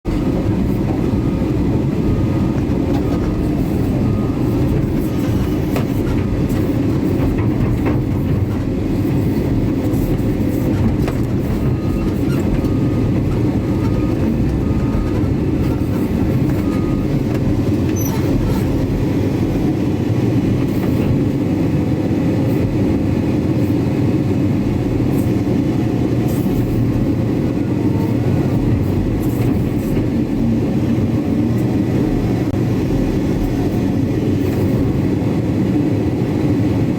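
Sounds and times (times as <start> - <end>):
excavator diesel engine rumbling: 0.1 - 36.9.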